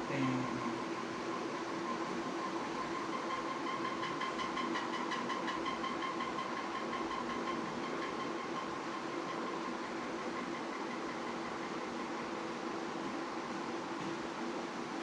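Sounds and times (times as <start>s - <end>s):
ceiling fan hum and whine: 0.0s - 15.0s.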